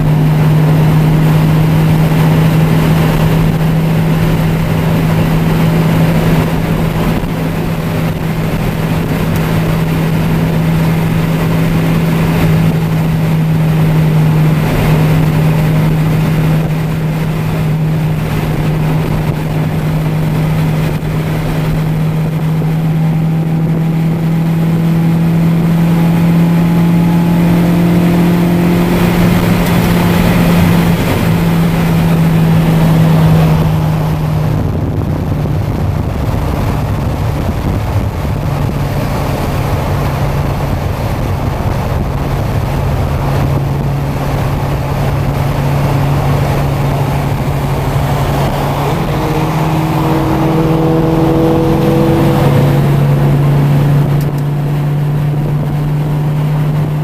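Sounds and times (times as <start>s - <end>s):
car engine drone: 0.0s - 57.0s
road and wind noise: 0.0s - 57.0s.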